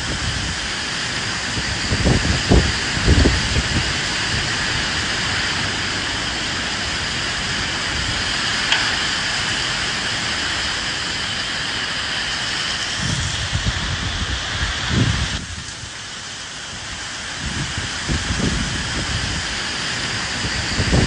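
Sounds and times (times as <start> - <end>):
gusty wind rumbles: 0.0 - 21.0
steady rain falling: 0.0 - 21.0.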